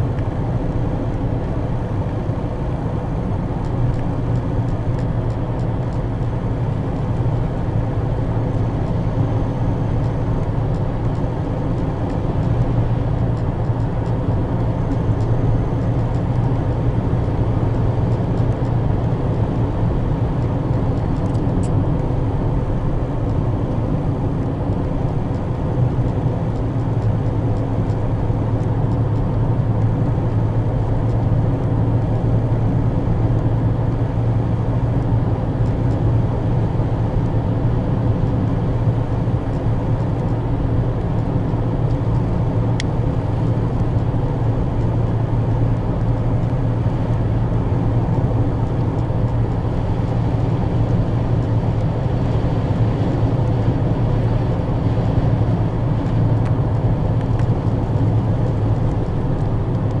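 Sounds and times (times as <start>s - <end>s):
car road and engine noise: 0.0s - 60.0s.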